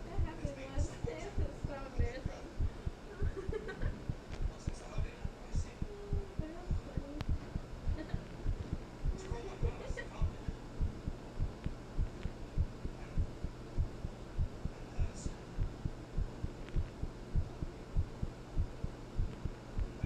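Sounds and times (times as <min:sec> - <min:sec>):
heartbeat thumps: 0:00.0 - 0:20.0
low hum: 0:00.0 - 0:20.0.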